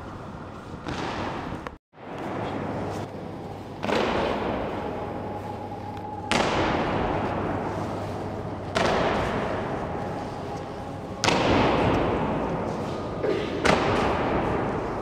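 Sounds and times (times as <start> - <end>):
echo in stone hall: 0.0 - 15.0.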